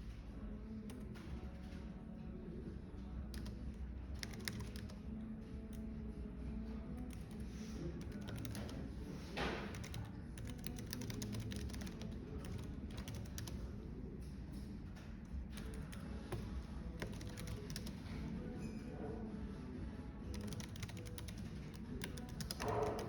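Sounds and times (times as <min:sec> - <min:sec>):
cafe background murmur: 0:00.0 - 0:23.0
keyboard typing: 0:00.6 - 0:18.6, 0:20.2 - 0:23.0.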